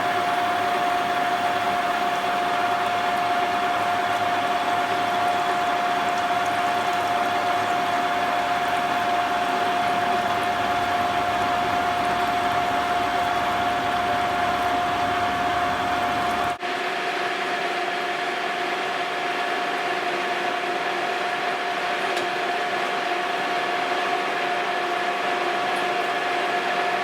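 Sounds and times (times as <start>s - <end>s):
machine whining steadily: 0.0s - 27.0s.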